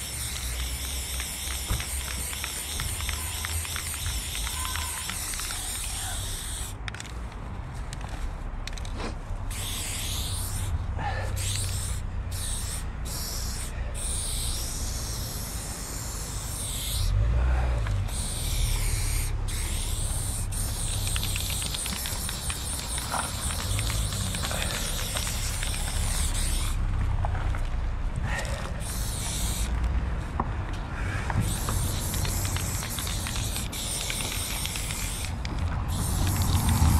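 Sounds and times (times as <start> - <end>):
spray paint can hissing: 0.0 - 7.3, 8.0 - 17.2, 17.9 - 26.8, 28.3 - 29.8, 31.0 - 36.9.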